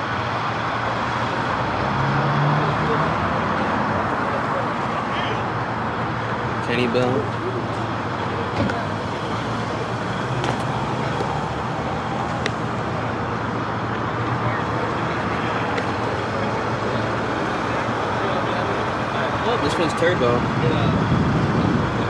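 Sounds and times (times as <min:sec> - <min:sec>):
car engine hum: 0:00.0 - 0:22.0
road and traffic noise: 0:00.0 - 0:22.0.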